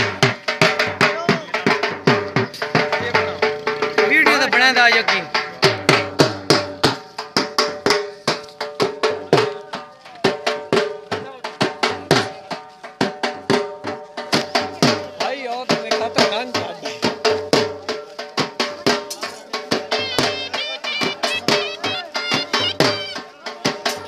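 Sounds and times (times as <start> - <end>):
drums beaten fast: 0.0 - 24.0.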